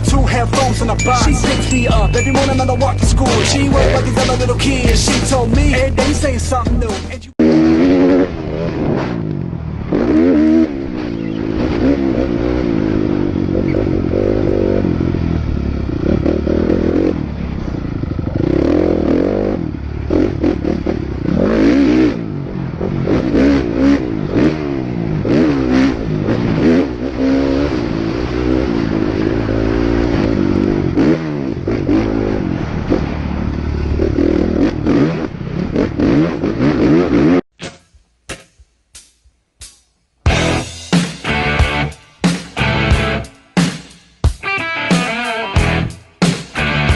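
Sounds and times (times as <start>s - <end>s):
motorcycle engines revving: 0.0s - 6.6s, 7.3s - 37.5s, 40.3s - 43.8s.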